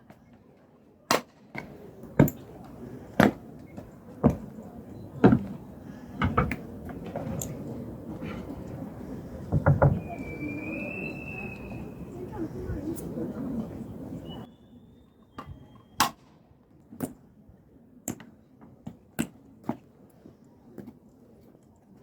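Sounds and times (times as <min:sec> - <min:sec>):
low crowd murmur: 0:00.0 - 0:22.0.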